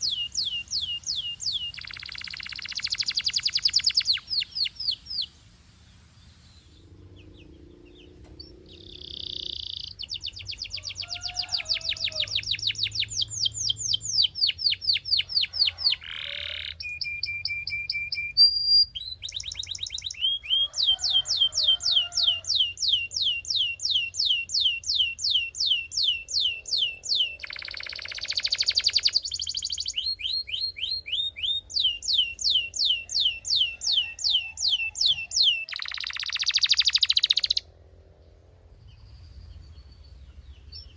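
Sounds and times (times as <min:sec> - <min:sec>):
canary singing: 0:00.0 - 0:05.4, 0:07.0 - 0:37.7.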